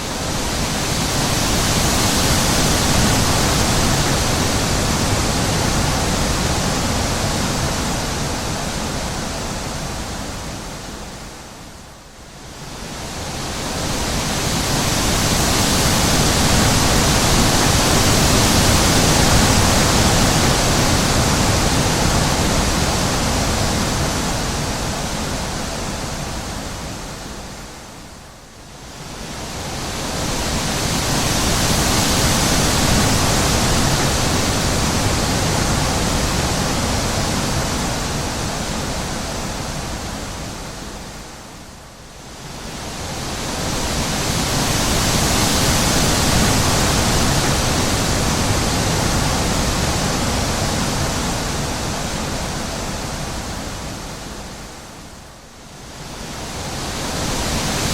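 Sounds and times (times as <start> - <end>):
wind blowing in gusts: 0.0 - 57.9.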